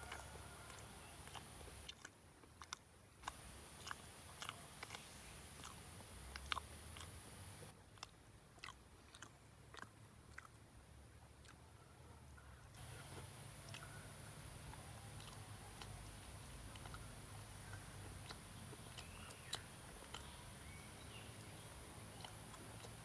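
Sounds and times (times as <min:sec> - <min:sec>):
crunchy chewing of food: 0:00.0 - 0:10.7, 0:11.4 - 0:11.7, 0:12.7 - 0:23.0.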